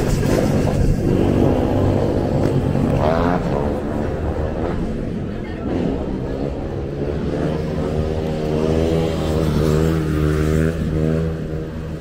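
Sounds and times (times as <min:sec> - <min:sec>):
streetcar machine hum: 0:00.0 - 0:12.0.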